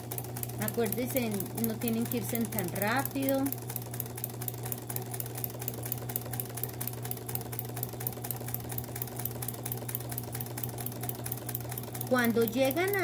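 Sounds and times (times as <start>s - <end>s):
sewing machine running: 0.0s - 13.0s.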